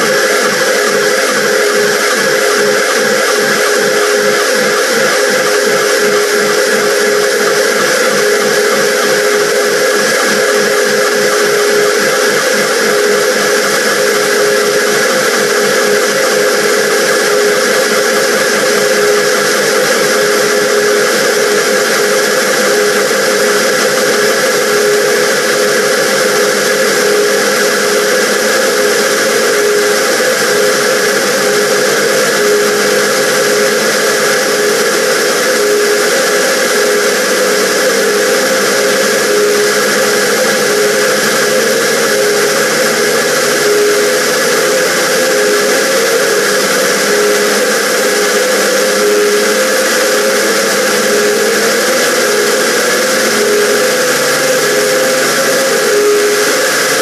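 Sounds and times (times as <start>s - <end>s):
dense looped sound effect drone: 0.0s - 57.0s
pulsing tone: 0.0s - 57.0s.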